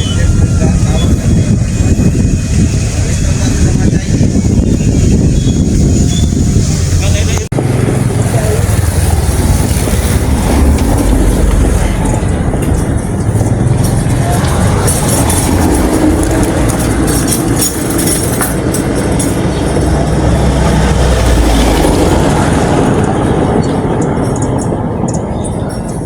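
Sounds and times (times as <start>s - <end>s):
heavy vehicle rumbling past: 0.0s - 25.6s.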